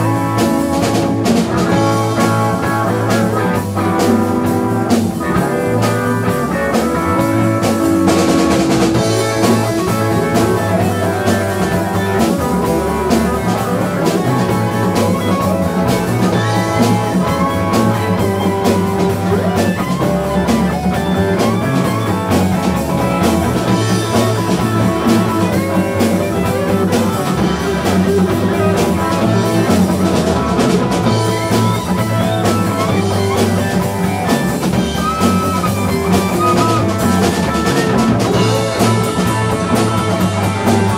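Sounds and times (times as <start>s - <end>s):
bass line: 0.0s - 40.9s
congas: 0.0s - 40.9s
drum kit: 0.0s - 40.9s
electric guitar bending notes: 0.0s - 40.9s.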